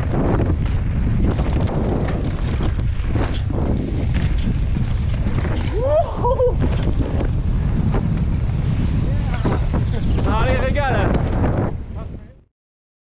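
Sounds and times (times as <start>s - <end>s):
tyres rolling over dirt: 0.0s - 11.5s
wind buffeting microphone: 0.0s - 12.4s.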